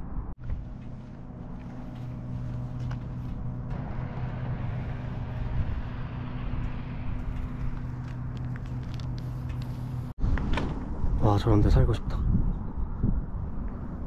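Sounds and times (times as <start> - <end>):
car engine and road drone: 0.0 - 11.2, 12.3 - 14.0.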